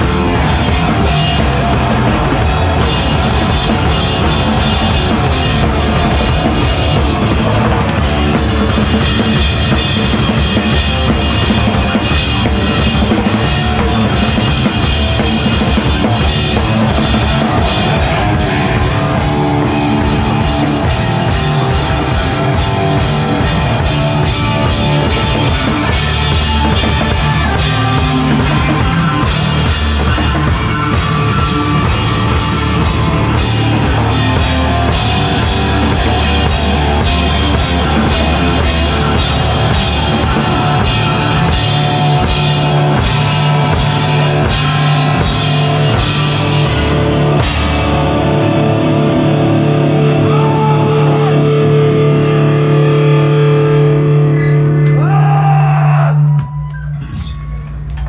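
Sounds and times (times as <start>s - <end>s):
drum kit: 0.0s - 55.6s
bass guitar: 0.0s - 58.0s
distorted electric guitar: 0.0s - 58.0s.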